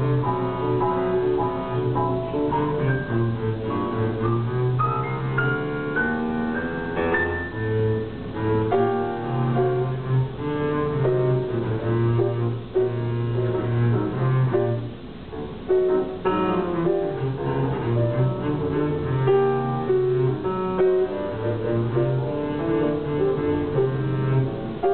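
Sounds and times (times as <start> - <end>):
bowed double bass: 0.0 - 24.9
grand piano: 0.0 - 24.9.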